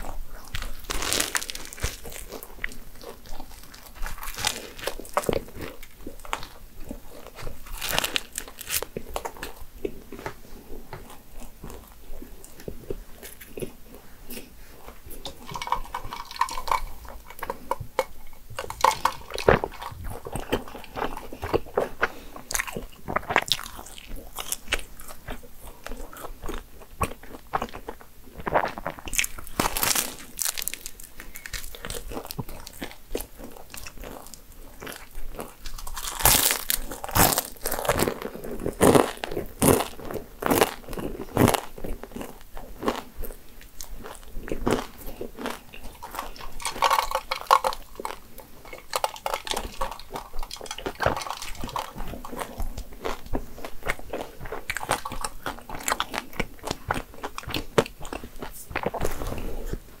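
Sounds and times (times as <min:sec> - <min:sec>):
chewing crisp pastry: 0:00.0 - 1:00.0.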